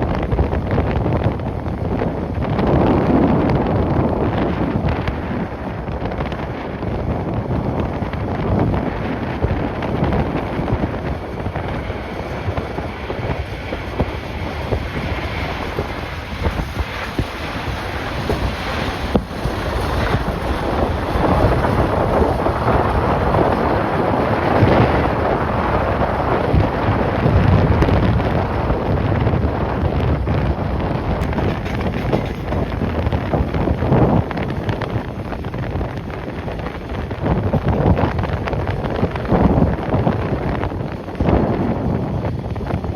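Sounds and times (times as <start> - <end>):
gusty wind buffeting microphone: 0.0 - 42.9.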